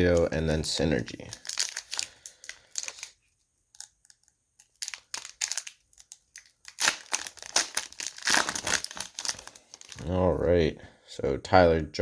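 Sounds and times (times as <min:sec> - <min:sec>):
plastic wrapper crinkling and tearing: 0:00.0 - 0:10.3.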